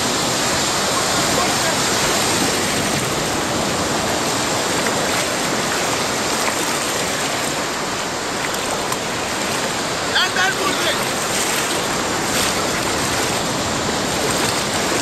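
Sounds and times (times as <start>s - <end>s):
surf and breaking waves: 0.0s - 15.0s.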